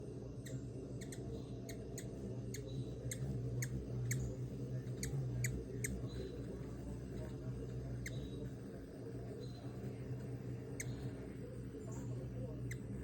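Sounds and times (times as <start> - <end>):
hummingbird chip notes: 0.0 - 13.0
low steady hum: 0.0 - 13.0.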